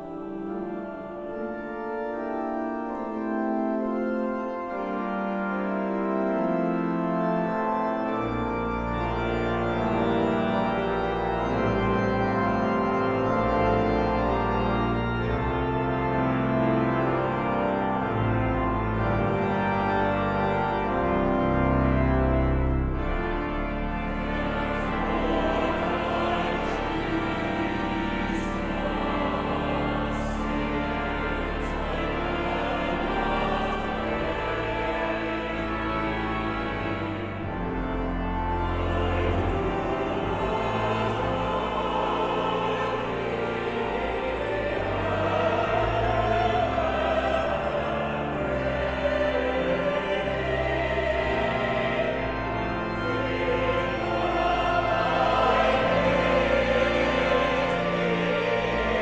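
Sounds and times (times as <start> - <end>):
deep organ pedal notes: 0.0 - 59.0
organ chords: 0.0 - 59.0.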